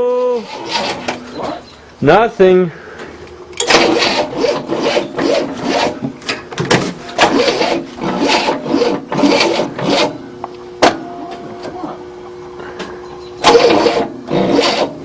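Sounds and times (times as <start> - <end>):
car engine cranking without firing: 0.4 - 1.9, 2.9 - 15.0.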